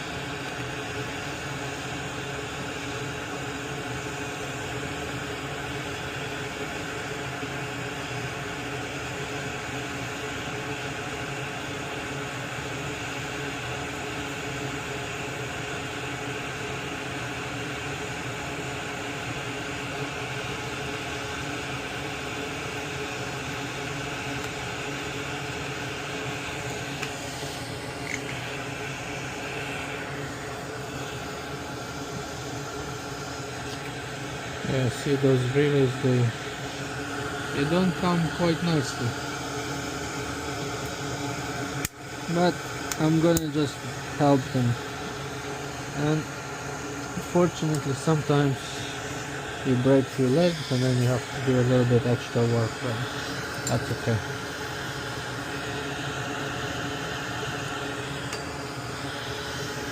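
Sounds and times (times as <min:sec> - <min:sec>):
electric blower fan running: 0:00.0 - 0:59.9.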